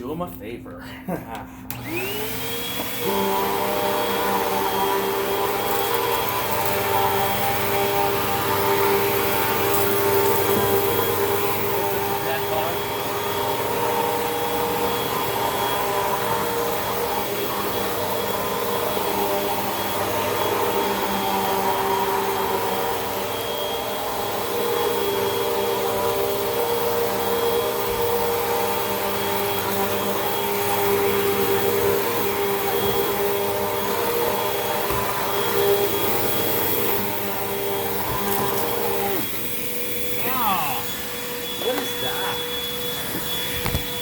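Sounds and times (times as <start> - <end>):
vacuum cleaner running: 1.1 - 44.0.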